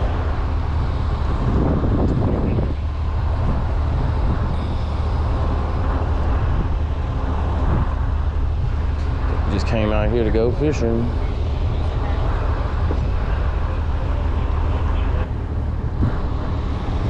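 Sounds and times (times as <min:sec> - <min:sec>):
diesel engines idling: 0:00.0 - 0:17.0.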